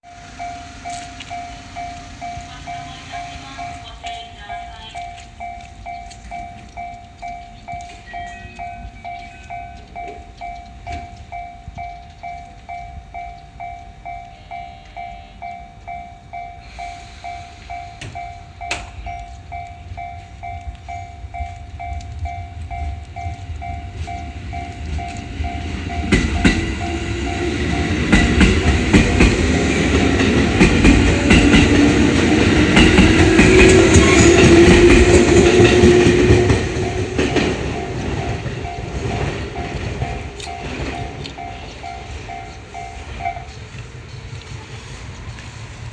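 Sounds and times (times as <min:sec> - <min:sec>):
level crossing warning bell: 0:00.0 - 0:44.5
train rumble and wheel clatter: 0:00.0 - 0:45.9.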